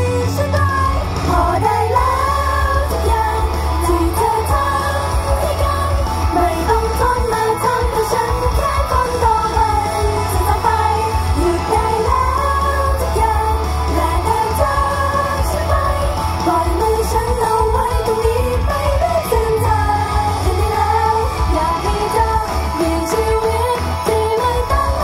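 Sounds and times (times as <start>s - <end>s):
pop song with female vocals: 0.0s - 25.0s.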